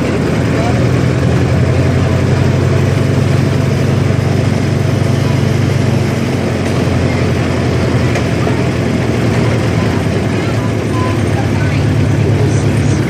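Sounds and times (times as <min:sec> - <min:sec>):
ride train engine droning: 0:00.0 - 0:13.0.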